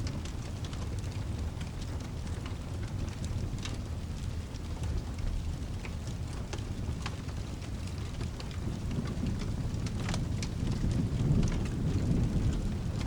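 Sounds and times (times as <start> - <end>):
fireplace crackling and popping: 0.0 - 13.0
low continuous rumble: 0.0 - 13.0
steady rain: 0.0 - 13.0.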